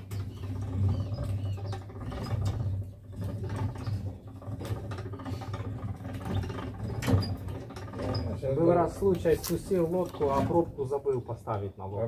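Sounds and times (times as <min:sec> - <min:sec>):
high squeaks and clicks: 0:00.0 - 0:10.4
boat cart rolling on rails: 0:00.0 - 0:12.0.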